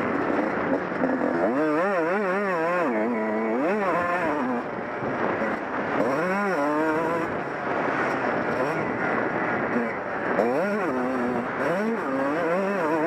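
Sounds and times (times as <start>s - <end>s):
motorcycle engine revving: 0.0s - 13.0s
wind: 0.0s - 13.0s.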